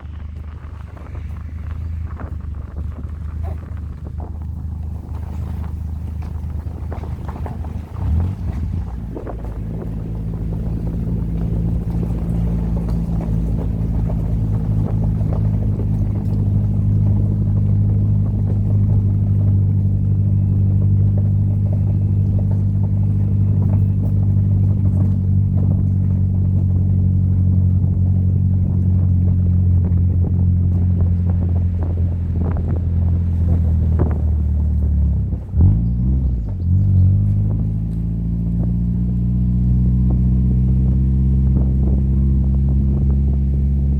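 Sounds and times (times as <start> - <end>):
car engine droning: 0.0 - 43.9
wind and road noise: 0.0 - 43.9.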